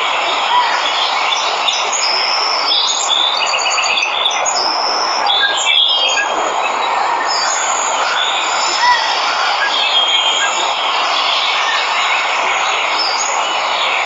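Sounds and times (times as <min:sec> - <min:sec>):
birds chirping and trilling: 0:00.1 - 0:14.0.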